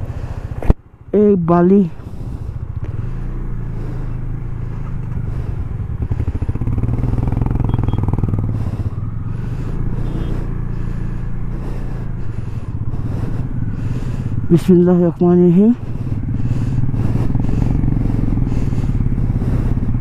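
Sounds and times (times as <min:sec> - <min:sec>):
motorcycle engine at low revs: 0:00.0 - 0:20.0
second motorcycle engine: 0:00.0 - 0:20.0.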